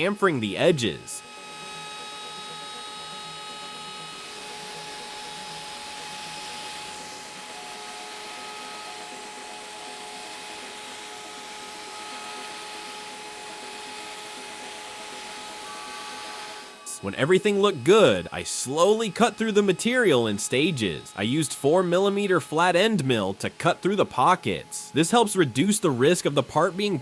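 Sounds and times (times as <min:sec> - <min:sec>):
cnc router spindle whine: 0:00.0 - 0:27.0.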